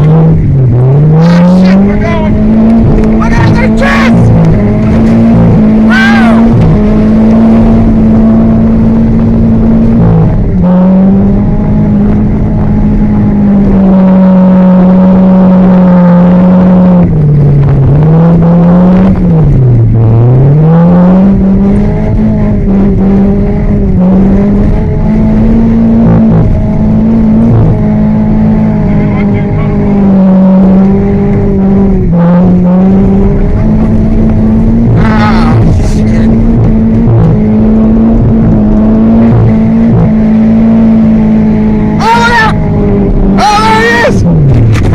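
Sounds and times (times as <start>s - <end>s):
car engine revving high: 0.0s - 44.9s.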